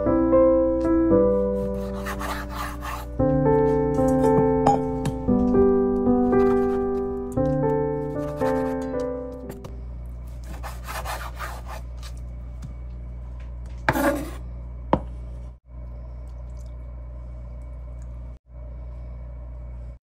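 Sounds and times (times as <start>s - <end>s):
steady low hum: 1.4s - 20.0s.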